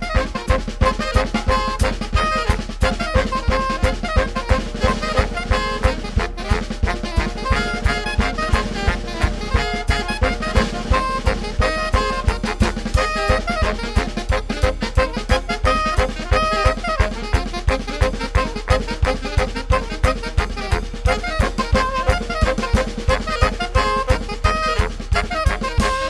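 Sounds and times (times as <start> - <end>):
drum kit fast beat: 0.0 - 26.0
saxophone ensemble melody: 0.0 - 26.0.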